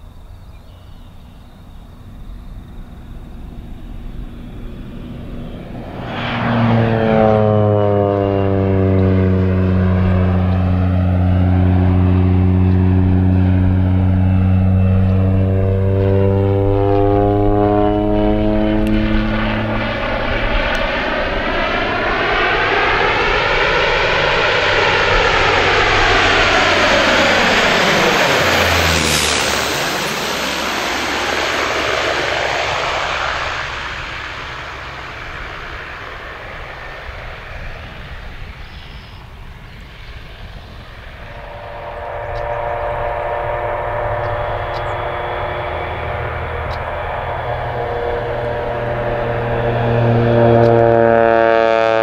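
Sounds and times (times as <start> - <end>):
turboprop plane droning overhead: 0.0 - 52.0.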